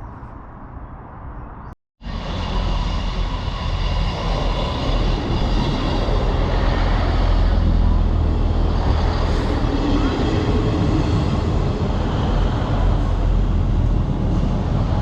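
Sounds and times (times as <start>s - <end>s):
train rumbling past: 2.0s - 15.0s.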